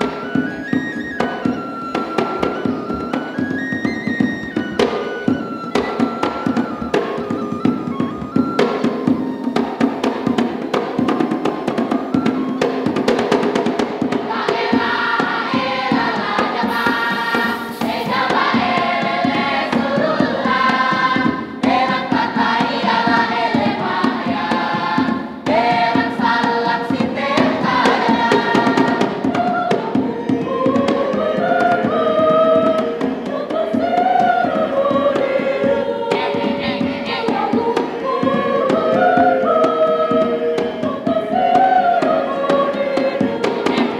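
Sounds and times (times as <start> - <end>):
choir singing in harmony: 0.0 - 3.6, 4.2 - 43.9
percussion clatter: 0.0 - 43.9.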